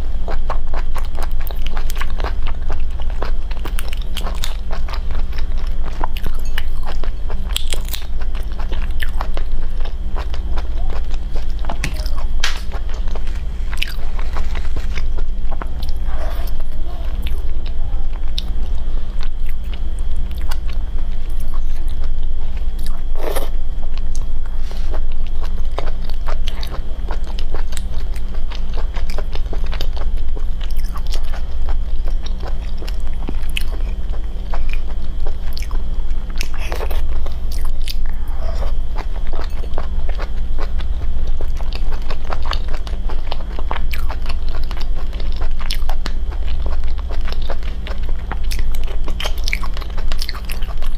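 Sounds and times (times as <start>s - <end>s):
steady low hum: 0.0s - 50.9s
chewing and biting: 0.3s - 50.9s.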